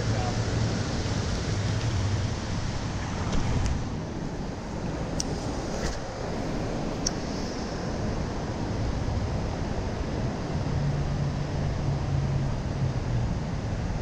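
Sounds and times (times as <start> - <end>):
creek water rushing over rapids: 0.0 - 14.0.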